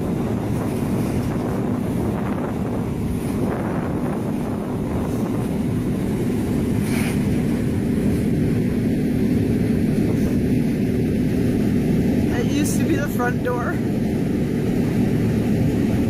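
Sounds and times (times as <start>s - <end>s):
low engine rumble: 0.0s - 16.0s
wind buffeting microphone: 0.0s - 16.0s.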